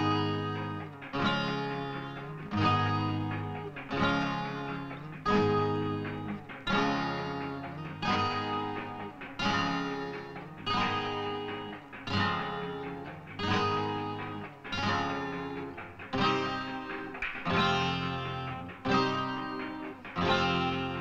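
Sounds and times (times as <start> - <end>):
strummed guitar chords: 0.0 - 21.0.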